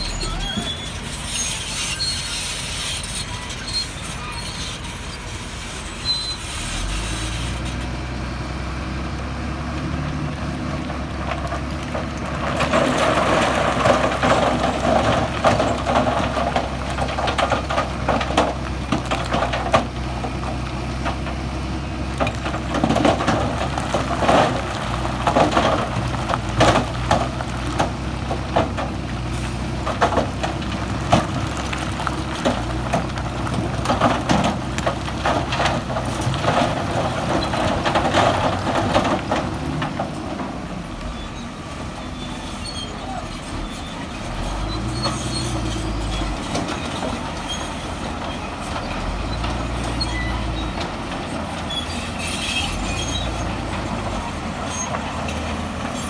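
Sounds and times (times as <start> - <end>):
diesel machinery running: 0.0 - 56.0
rocks clattering and grinding: 9.2 - 56.0.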